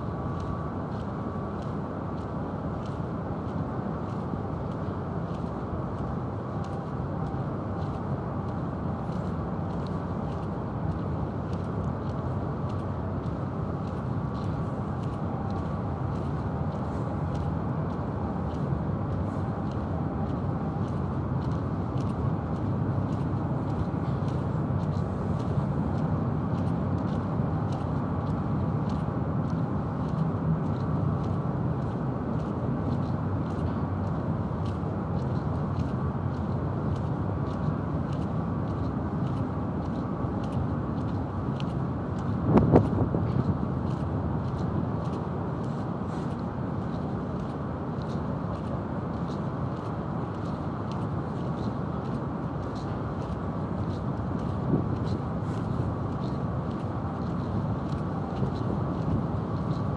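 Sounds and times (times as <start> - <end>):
harbour-side rumble: 0.0 - 59.9
faint irregular ticks: 0.2 - 59.9.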